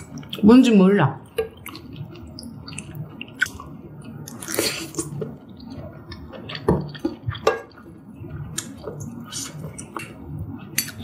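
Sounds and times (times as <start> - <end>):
wet chewing mouth sounds: 1.4 - 11.0.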